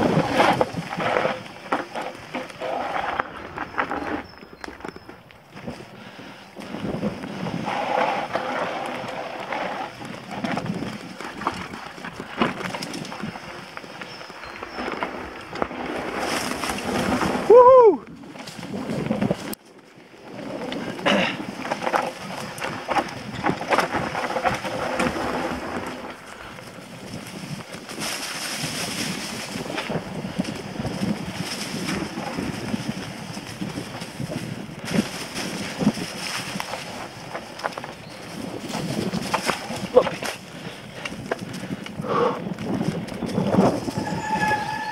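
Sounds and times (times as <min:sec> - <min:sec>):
wind rushing across microphone: 0:00.0 - 0:04.9, 0:05.5 - 0:44.9
bike rattling and knocking: 0:00.0 - 0:44.9
bike tyres crunching over leaves and stones: 0:00.0 - 0:44.9.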